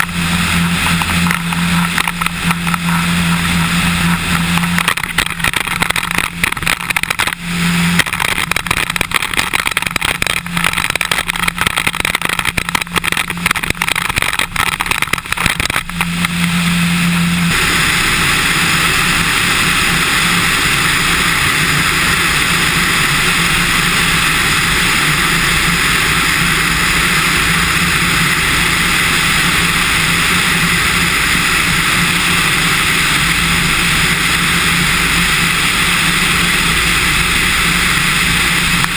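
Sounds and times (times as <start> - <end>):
light aircraft engine at full power: 0.0 - 38.9
wind rushing over microphone: 0.0 - 38.9.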